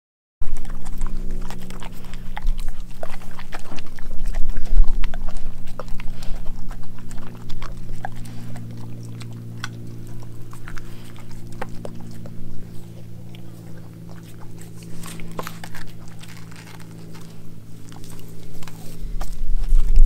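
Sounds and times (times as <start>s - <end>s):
dog chewing and crunching: 0.4s - 20.0s
steady low hum: 0.4s - 20.0s.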